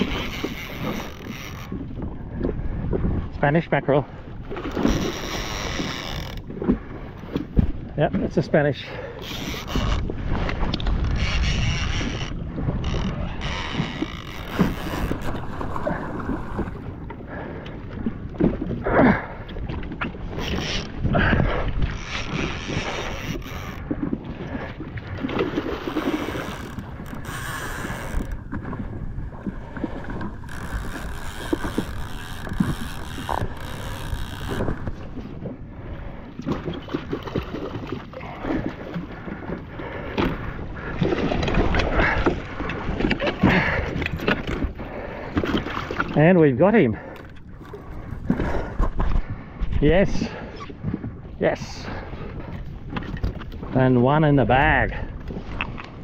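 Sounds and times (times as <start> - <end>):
water splashing against a hull: 0.0 - 56.0
wind buffeting the microphone: 0.0 - 56.0.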